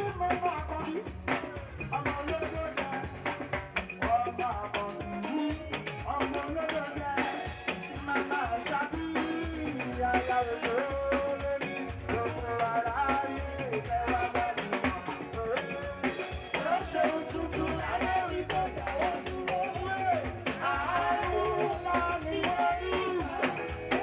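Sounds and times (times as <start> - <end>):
person singing: 0.0 - 24.0
upbeat party music: 0.0 - 24.0.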